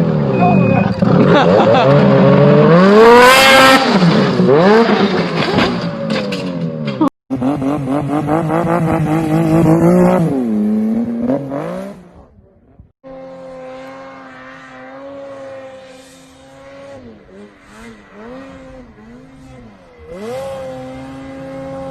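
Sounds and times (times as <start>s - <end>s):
snowmobile engine revving: 0.0s - 5.8s, 7.3s - 12.3s, 13.1s - 21.9s.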